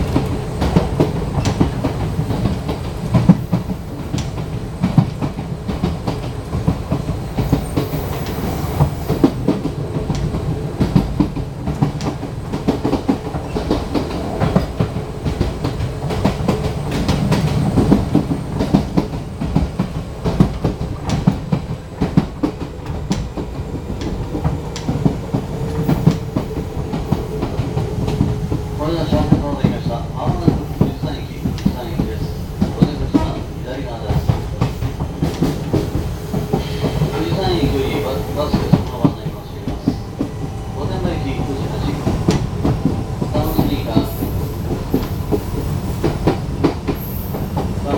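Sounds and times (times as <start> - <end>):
electric train rumbling: 0.0 - 47.9.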